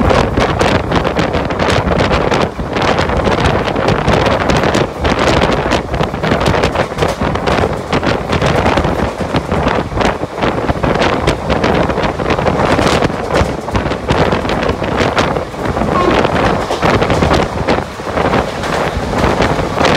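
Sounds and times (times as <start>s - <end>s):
sharp track clatters: 0.0s - 19.9s
train wheel and track rush: 0.0s - 19.9s
wind buffeting microphone: 0.0s - 19.9s.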